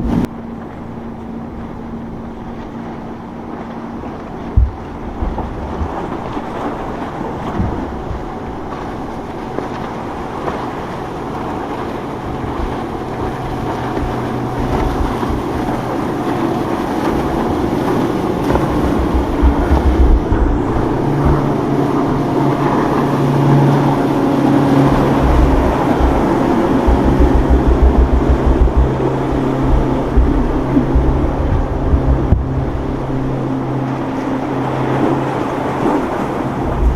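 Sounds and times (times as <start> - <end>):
boat engines running: 0.0 - 36.9
wind gusts on microphone: 1.6 - 36.9.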